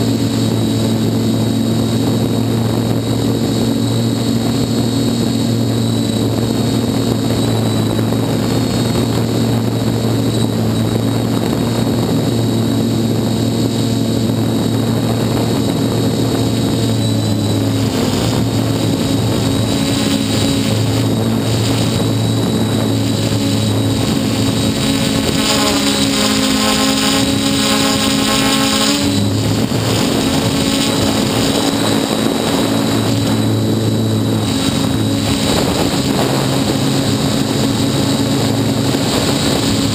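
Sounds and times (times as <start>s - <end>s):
drone propellers droning: 0.0s - 39.9s
high multi-toned motor whine: 0.0s - 39.9s.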